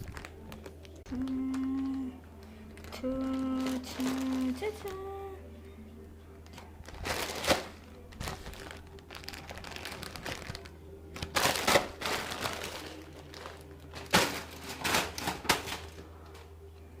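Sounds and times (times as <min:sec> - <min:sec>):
packaging crinkling and rustling: 0:00.0 - 0:05.1, 0:06.4 - 0:16.5.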